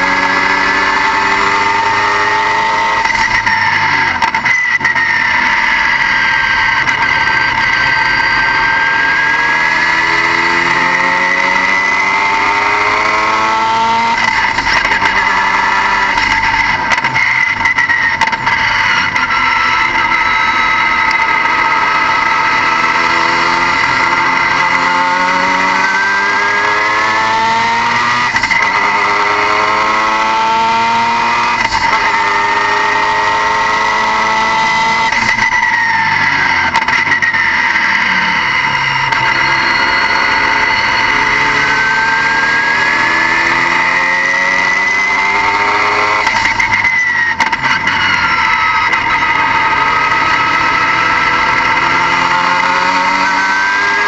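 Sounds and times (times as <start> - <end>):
steady high whine: 0.0 - 29.9, 31.6 - 54.0
car engine accelerating: 0.0 - 54.0.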